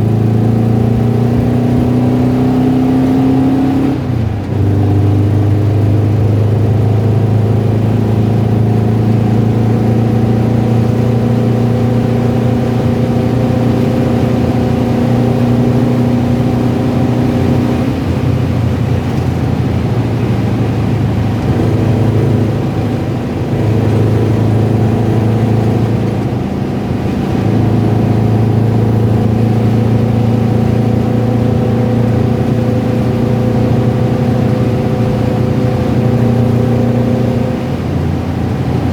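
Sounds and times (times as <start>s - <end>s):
car engine running: 0.0s - 38.9s
engine rattling and tapping: 0.0s - 38.9s.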